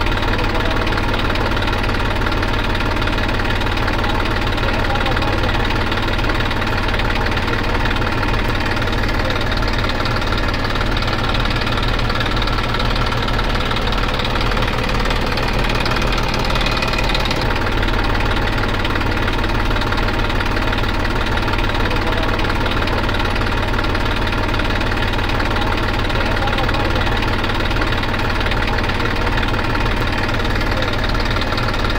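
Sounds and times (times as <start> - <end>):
diesel engines running: 0.0 - 31.9.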